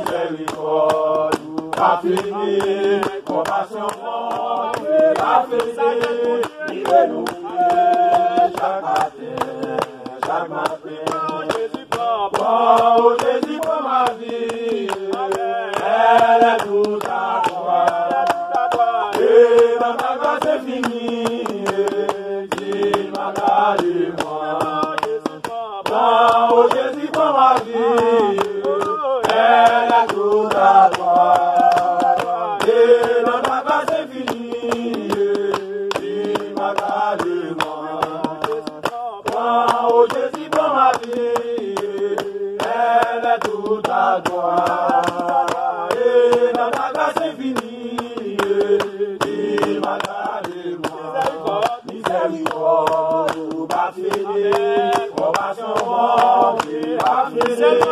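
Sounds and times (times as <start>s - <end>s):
group singing without instruments: 0.0s - 57.9s
hands clapping in steady beat: 0.0s - 57.9s.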